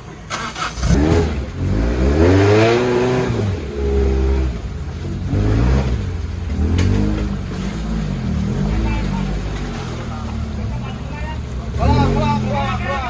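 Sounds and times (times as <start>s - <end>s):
car engine revving: 0.1s - 13.0s.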